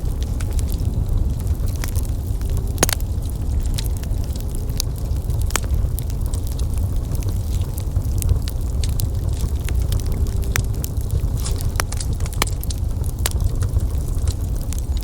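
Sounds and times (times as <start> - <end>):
fire sharp snaps: 0.0 - 15.0
wood fire crackling: 0.0 - 15.0.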